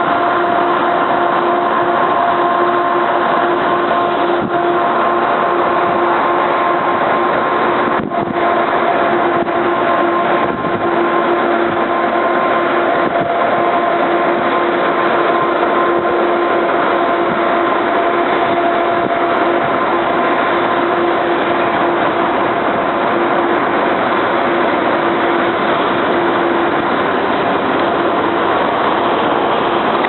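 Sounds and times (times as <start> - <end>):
diesel locomotive idling: 0.0 - 30.0.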